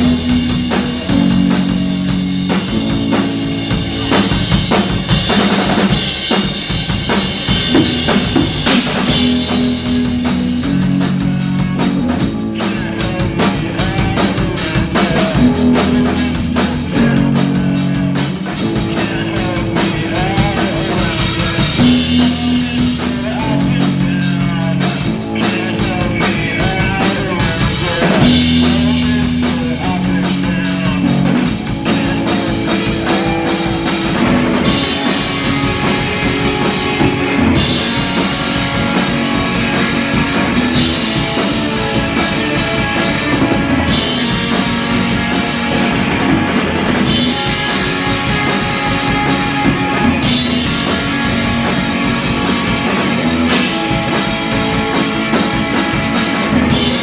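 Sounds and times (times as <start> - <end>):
drum kit with cymbals: 0.0 - 57.0
electric guitar: 0.0 - 57.0
low bass notes: 0.0 - 57.0.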